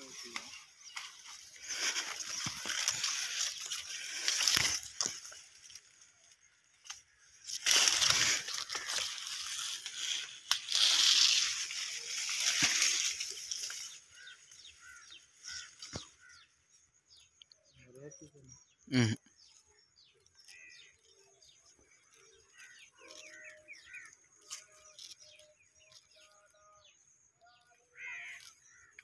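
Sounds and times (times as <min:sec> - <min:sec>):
rustling and crunching grass: 0:00.0 - 0:17.3, 0:19.4 - 0:26.6, 0:28.0 - 0:29.0.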